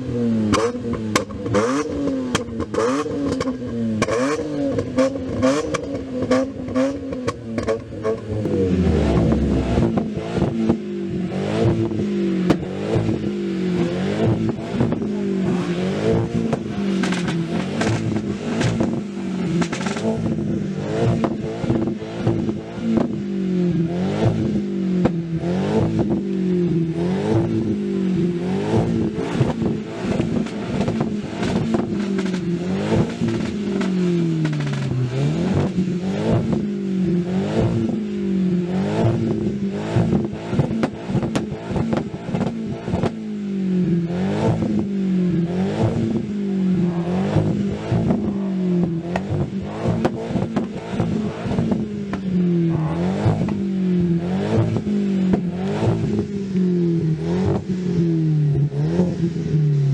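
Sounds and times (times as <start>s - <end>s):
car engine revving: 0.0s - 59.9s
exhaust crackles: 0.1s - 59.9s.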